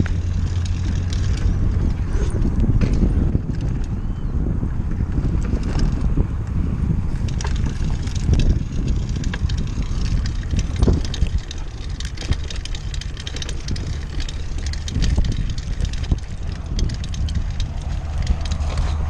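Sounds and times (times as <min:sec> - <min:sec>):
bike clicks and rattles: 0:00.0 - 0:19.0
bike rolling over rough ground: 0:00.0 - 0:19.0
wind buffeting microphone: 0:00.0 - 0:19.0.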